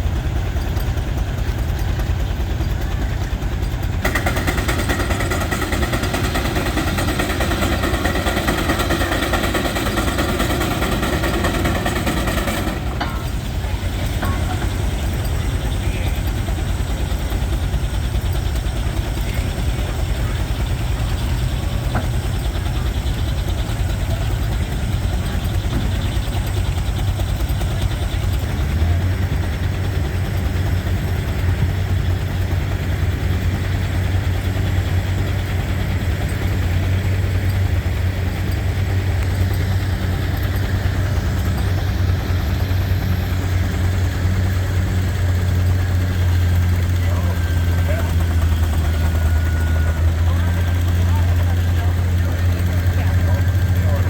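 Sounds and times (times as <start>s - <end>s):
steam engine driving a sawmill: 0.0s - 54.0s.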